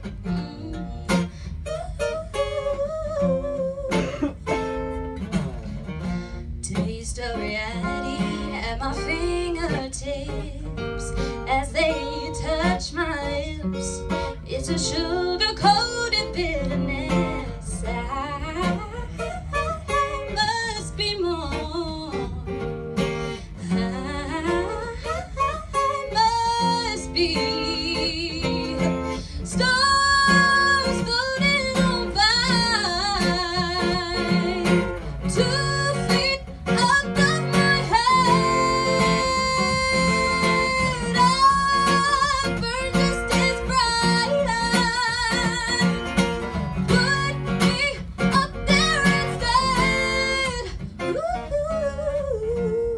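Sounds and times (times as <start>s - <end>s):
woman singing: 0.0s - 4.9s, 6.6s - 52.9s
acoustic guitar: 0.0s - 52.9s.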